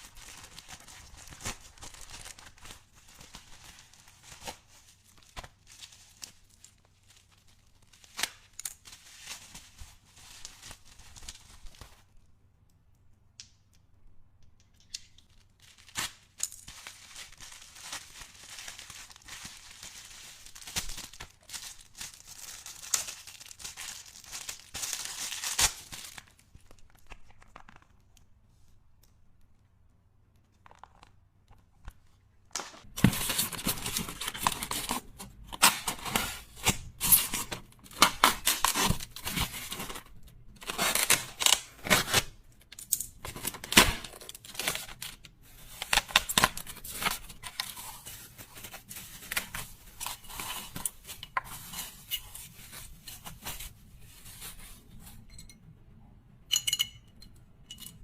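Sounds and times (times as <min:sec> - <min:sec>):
packaging crinkling and tearing: 0:00.0 - 0:12.1, 0:15.2 - 0:28.2, 0:32.6 - 0:54.6.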